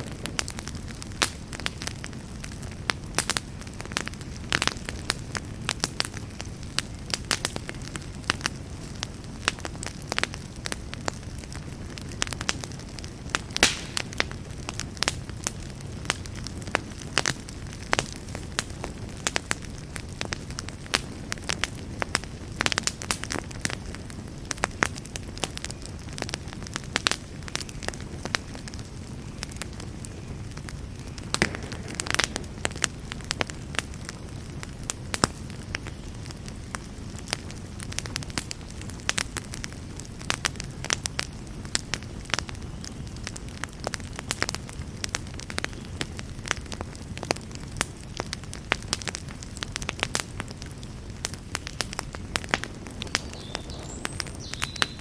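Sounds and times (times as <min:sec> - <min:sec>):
campfire crackling and popping: 0:00.0 - 0:55.0
low rush of fire: 0:00.0 - 0:55.0.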